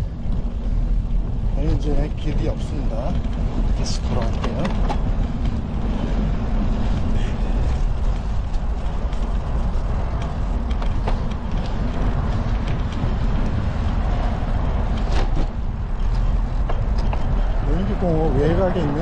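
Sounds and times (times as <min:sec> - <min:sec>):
bike clicks and rattles: 0:00.0 - 0:19.0
wind and tyre rumble: 0:00.0 - 0:19.0.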